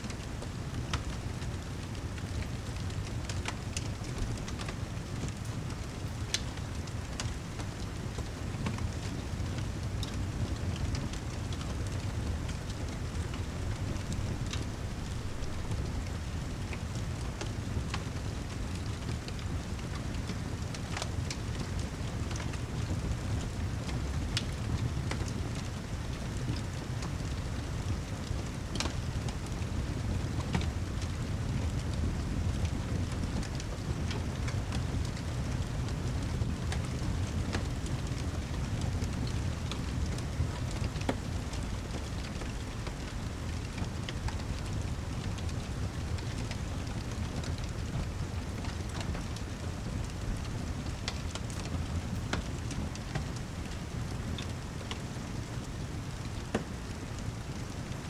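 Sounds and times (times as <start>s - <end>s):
fireplace crackling and popping: 0.0s - 58.0s
steady rain: 0.0s - 58.0s.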